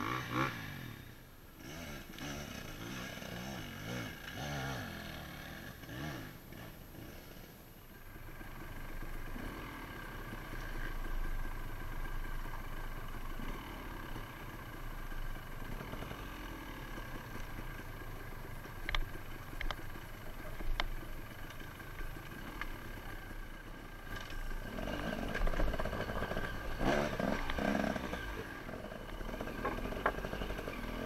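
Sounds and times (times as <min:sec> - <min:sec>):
dirt bike engine at low revs: 0:00.0 - 0:31.0.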